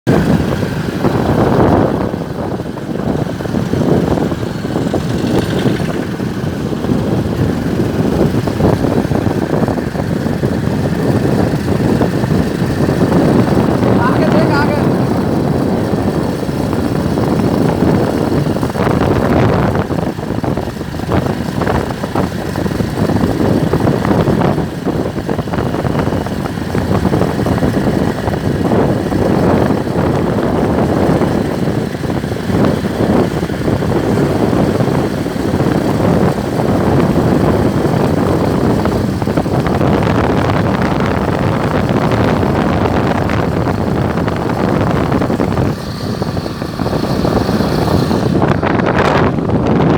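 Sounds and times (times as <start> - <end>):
motorbike running on road: 0.0 - 49.9
wind on microphone: 0.0 - 49.9.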